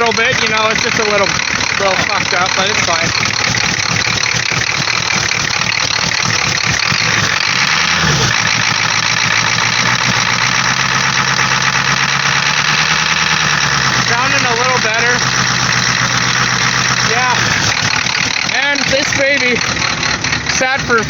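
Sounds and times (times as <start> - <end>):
diesel engine running rough: 0.0 - 21.0.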